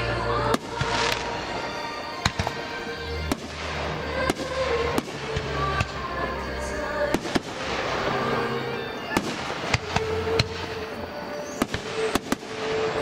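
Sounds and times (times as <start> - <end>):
firework crackle: 0.0 - 13.0
music playing: 0.0 - 13.0.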